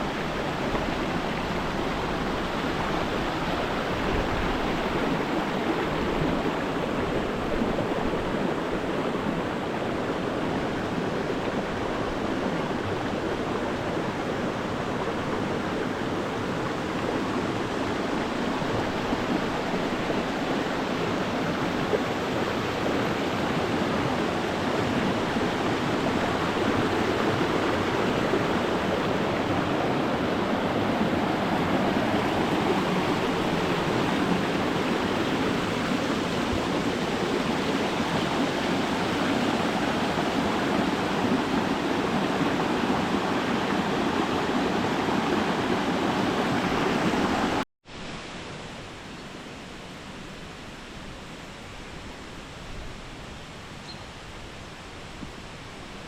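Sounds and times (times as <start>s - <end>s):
falling water rushing: 0.0s - 53.6s.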